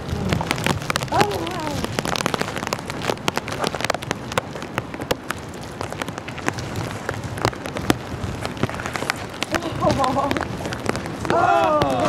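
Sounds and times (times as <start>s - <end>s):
rain hissing: 0.0s - 12.0s
raindrops tapping: 0.0s - 12.0s.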